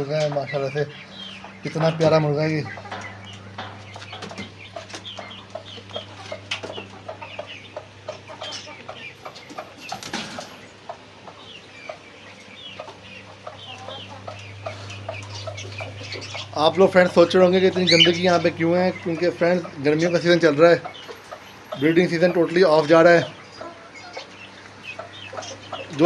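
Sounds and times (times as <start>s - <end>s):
caged birds chirping: 0.0s - 26.0s
chickens clucking: 0.0s - 26.0s
steady low hum: 0.0s - 26.0s.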